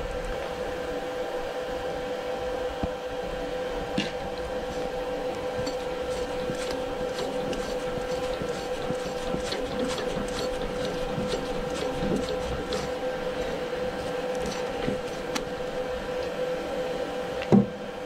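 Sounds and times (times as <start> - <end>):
machine hum with whine: 0.0 - 18.0.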